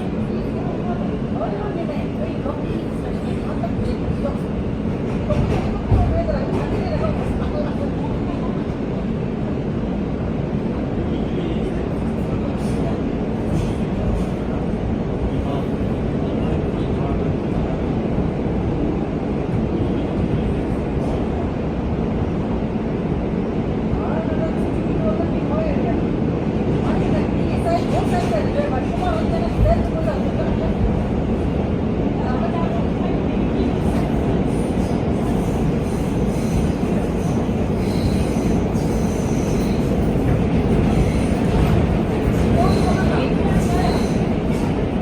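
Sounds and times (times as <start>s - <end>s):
subway train wheels rumbling on track: 0.0s - 45.0s.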